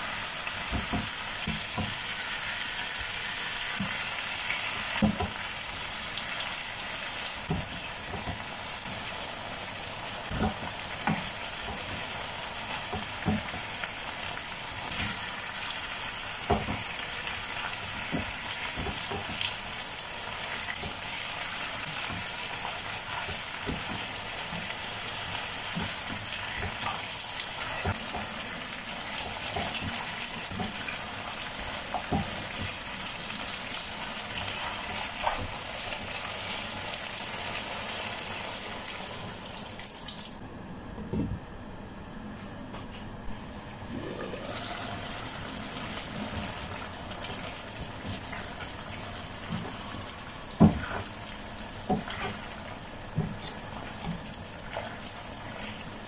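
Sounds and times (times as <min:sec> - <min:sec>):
chicken sizzling in a pan: 0:00.0 - 0:40.4, 0:43.3 - 0:56.0.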